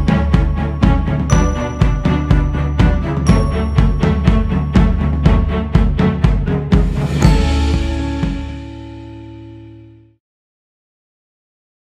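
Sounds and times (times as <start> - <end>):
background music held chord: 0.0 - 10.2.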